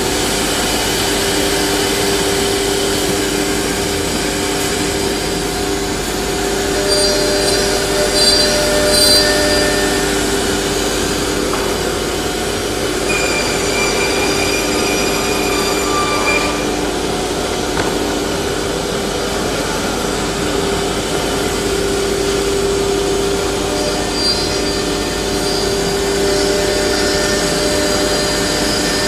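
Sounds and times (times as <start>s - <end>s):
steady hum: 0.0s - 29.0s
wood router machine drone: 0.0s - 29.0s.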